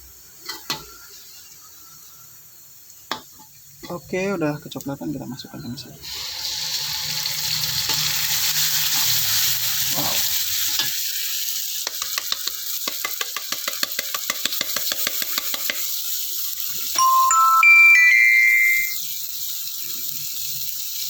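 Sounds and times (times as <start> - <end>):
spices and oil sizzling in a pan: 0.0 - 17.4, 18.2 - 21.0.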